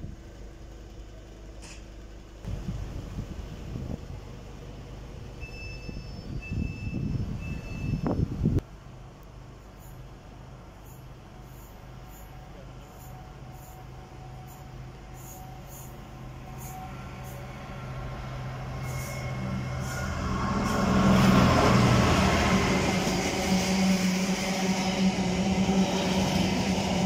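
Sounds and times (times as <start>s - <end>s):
locomotive rumble passing: 0.0s - 8.6s, 9.7s - 27.0s.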